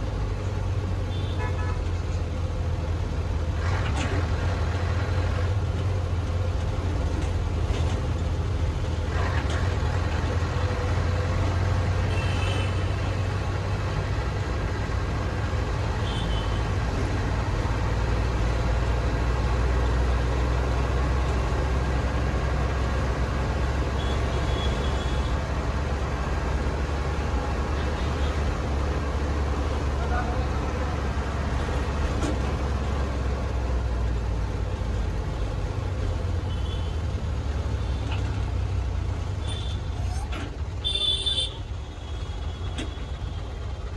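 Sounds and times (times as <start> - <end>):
vehicle rumbling in traffic: 0.0 - 43.9.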